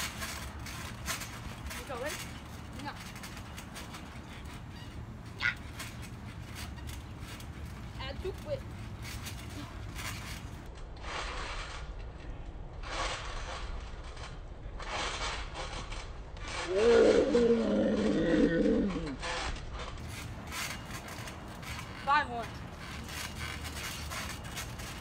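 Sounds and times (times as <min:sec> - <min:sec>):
rough groaning: 0:00.0 - 0:11.8, 0:14.8 - 0:25.0
trampoline springs creaking: 0:00.0 - 0:25.0.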